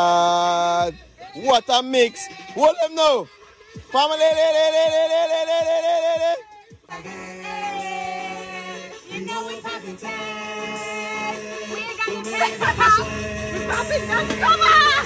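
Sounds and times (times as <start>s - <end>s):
bass line: 0.0s - 15.0s
music beat: 0.0s - 15.0s
person singing: 0.0s - 15.0s.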